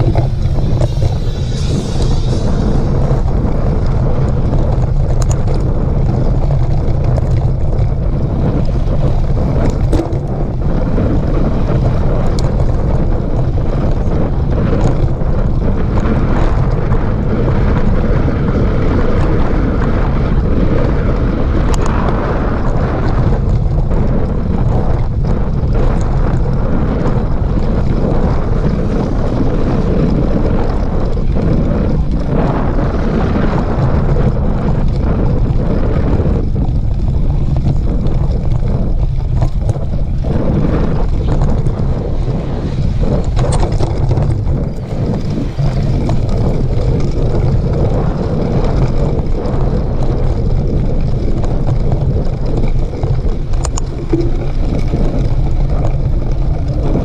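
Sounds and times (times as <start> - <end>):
small clicks and rattles: 0.0 - 17.8, 20.7 - 57.0
mountain bike on dirt trail: 0.0 - 57.0
wind rumble on microphone: 0.0 - 57.0.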